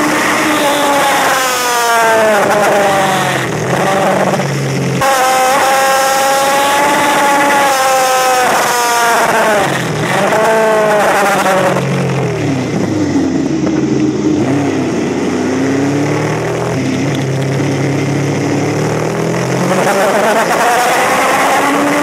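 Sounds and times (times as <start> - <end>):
motorcycle engine at race pace: 0.0 - 22.0.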